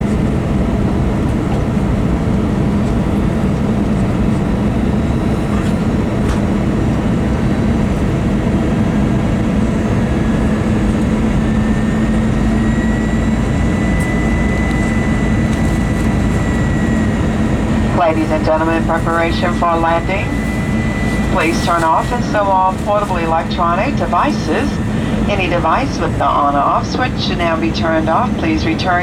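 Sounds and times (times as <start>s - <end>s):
airliner cabin rumble: 0.0s - 29.0s.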